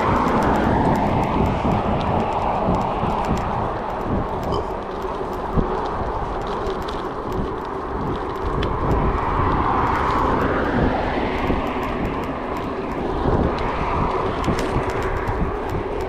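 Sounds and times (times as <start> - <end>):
bike tyres rolling on gravel: 0.0 - 16.0
clicks of stones and bike: 0.0 - 16.0.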